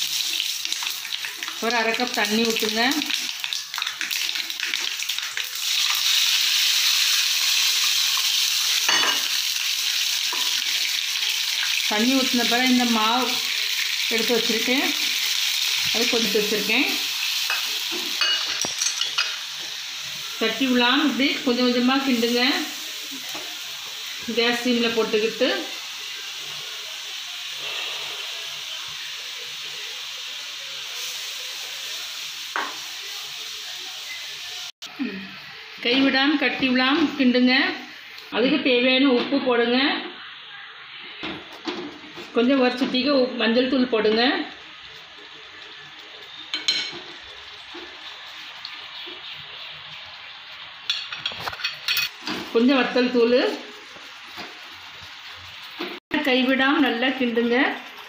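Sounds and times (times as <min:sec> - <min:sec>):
seeds sizzling in hot oil: 0:00.0 - 0:38.6, 0:42.0 - 0:58.0
water hissing in hot oil: 0:00.0 - 0:38.6, 0:42.0 - 0:58.0.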